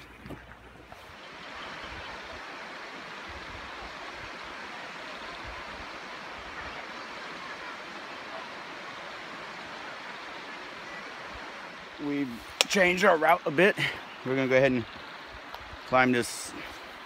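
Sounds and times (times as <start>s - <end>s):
waterfall rushing: 0.8s - 17.0s.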